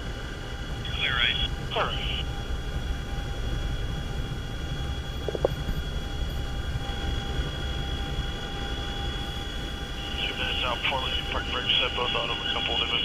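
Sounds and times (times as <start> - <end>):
helicopter low rumble: 0.0 - 13.0
high-pitched whines: 0.7 - 13.0.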